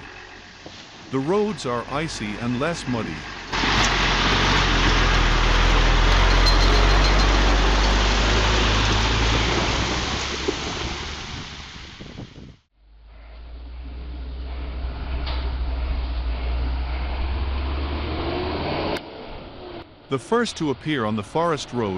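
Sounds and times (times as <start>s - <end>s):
heavy truck engine running: 0.0s - 18.6s.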